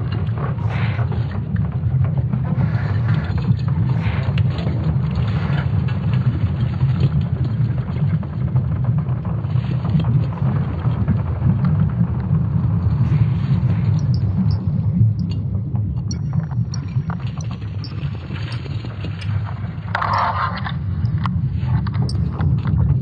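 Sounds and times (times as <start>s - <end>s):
deep rumble with crackling texture: 0.0s - 23.0s.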